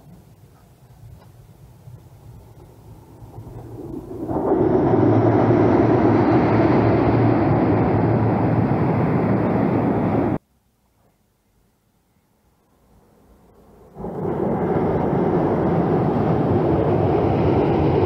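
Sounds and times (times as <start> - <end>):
train rumbling over bridge: 0.0 - 10.4, 13.6 - 18.0.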